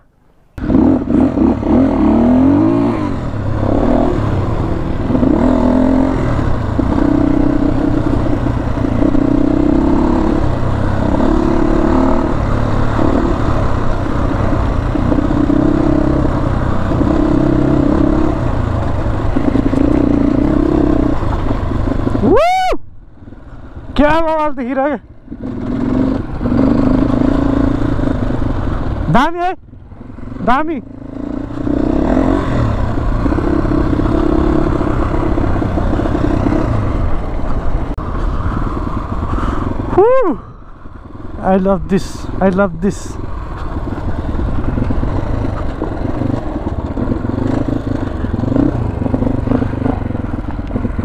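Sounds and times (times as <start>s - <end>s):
motorcycle engine revving: 0.6s - 22.4s, 23.7s - 51.0s.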